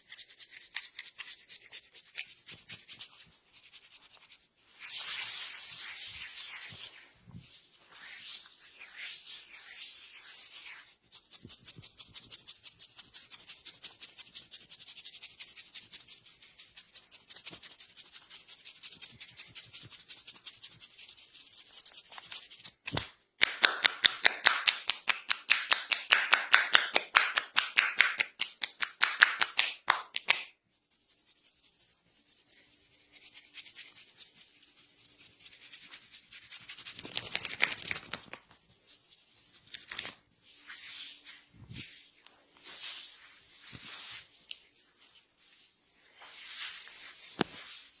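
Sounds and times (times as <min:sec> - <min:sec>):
hands rubbing hair and scalp: 0:00.3 - 0:48.0.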